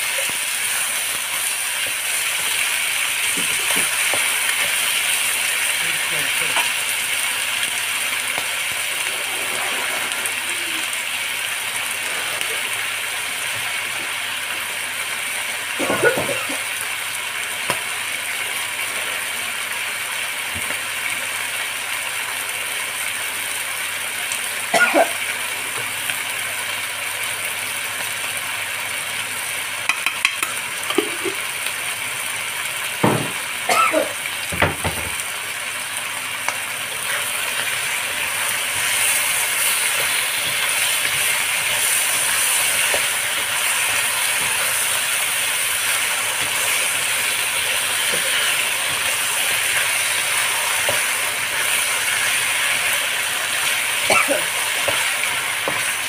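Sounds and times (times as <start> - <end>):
chicken wings sizzling in oil: 0.0 - 56.0.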